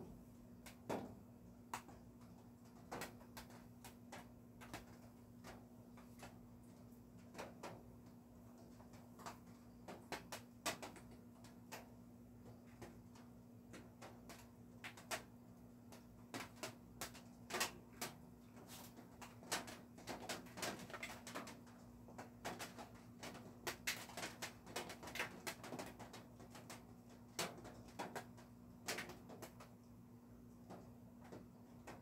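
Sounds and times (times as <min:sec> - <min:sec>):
raindrops tapping on roof: 0:00.1 - 0:32.0.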